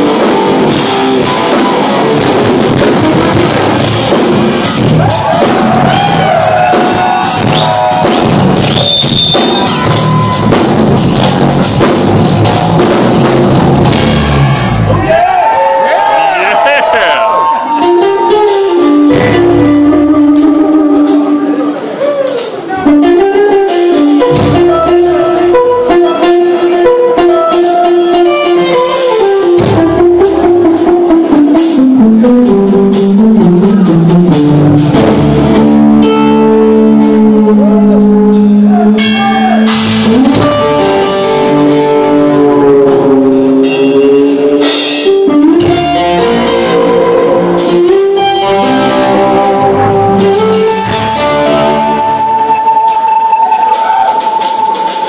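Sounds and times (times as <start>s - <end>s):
drum kit: 0.0s - 55.0s
electric guitar lead: 0.0s - 55.0s.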